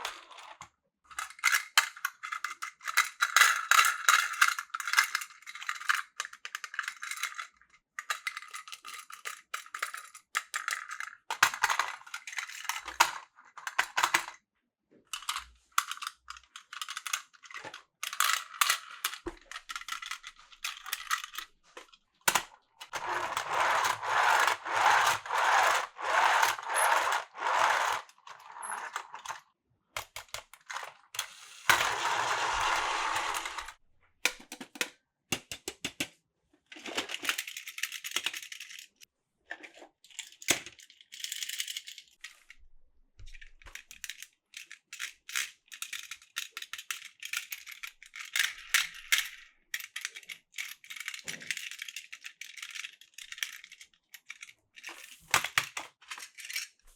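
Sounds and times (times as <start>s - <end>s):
plastic toy parts rattling: 0.0s - 14.4s, 15.1s - 29.4s, 30.0s - 34.9s, 36.7s - 39.0s, 39.6s - 42.6s, 43.2s - 56.9s.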